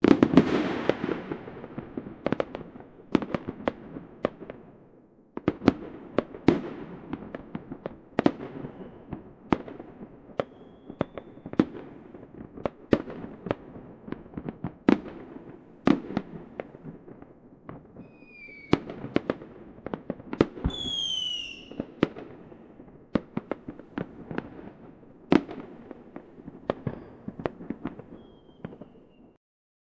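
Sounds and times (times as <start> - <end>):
fireworks bangs: 0.0 - 4.7, 5.3 - 29.4
whistling fireworks: 0.0 - 29.4.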